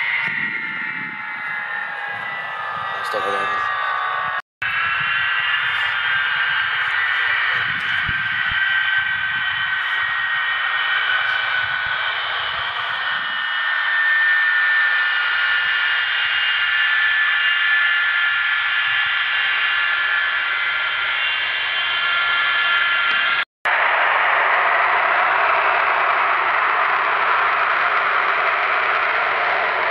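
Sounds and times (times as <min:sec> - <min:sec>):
jet engines whining and roaring: 0:00.0 - 0:29.9.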